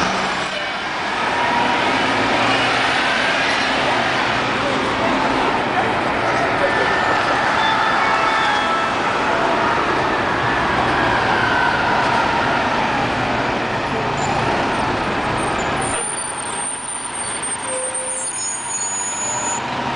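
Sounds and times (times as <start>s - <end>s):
bus diesel engines pulling away: 0.0s - 19.9s
road noise: 0.0s - 19.9s.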